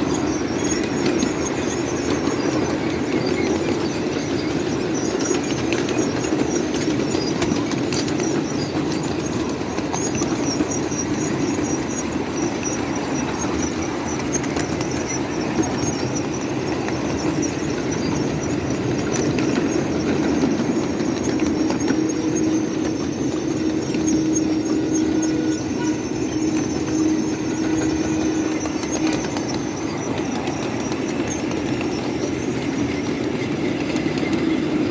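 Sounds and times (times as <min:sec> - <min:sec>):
train brakes squealing: 0:00.0 - 0:34.9
wheels clicking over rail joints: 0:00.0 - 0:34.9.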